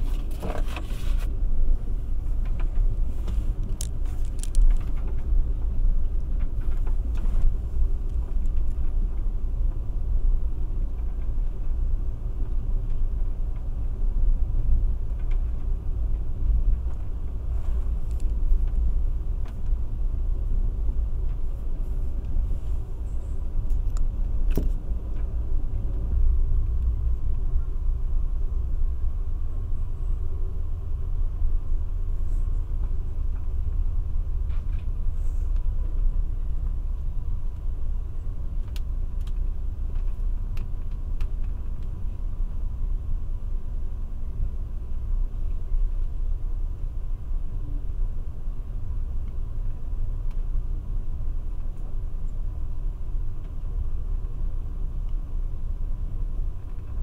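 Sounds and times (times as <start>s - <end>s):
train car rumbling on track: 0.0s - 57.0s.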